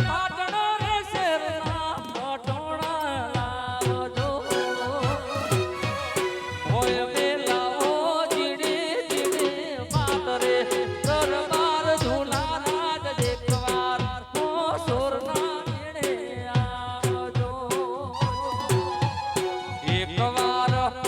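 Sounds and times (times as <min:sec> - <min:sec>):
driving drum beat: 0:00.0 - 0:21.0.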